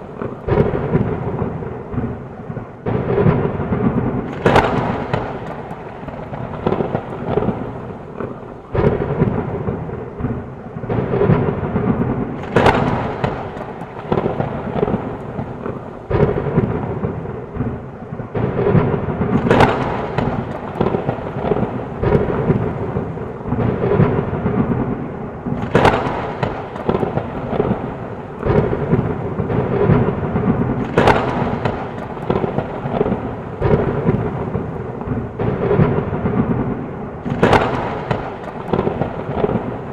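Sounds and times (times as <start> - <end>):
heavy rain falling: 0.0 - 39.9
low rolling thunder: 0.0 - 39.9
sharp thunderclaps: 0.0 - 39.9.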